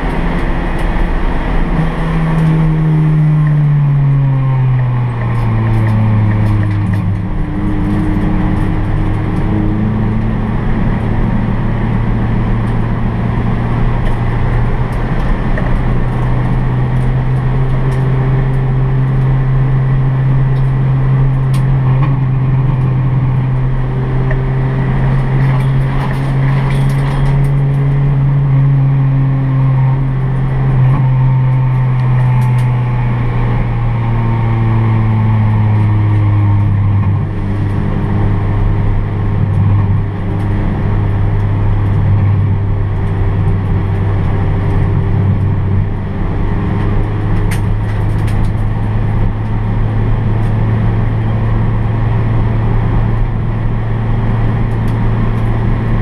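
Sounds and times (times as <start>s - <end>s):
car engine from inside cabin: 0.0s - 56.0s
tyre and road noise: 0.0s - 56.0s.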